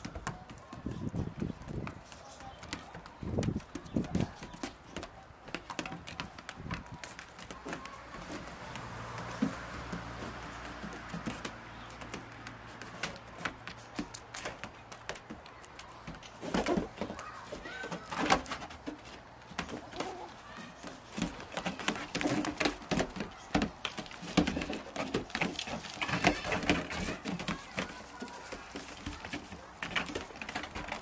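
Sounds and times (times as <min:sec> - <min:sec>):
hooves knocking on wooden roof: 0:00.0 - 0:31.0.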